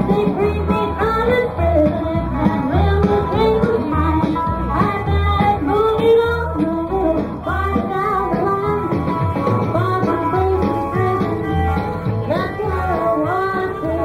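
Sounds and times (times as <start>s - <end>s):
guitar: 0.0s - 14.0s
person singing: 0.0s - 14.0s.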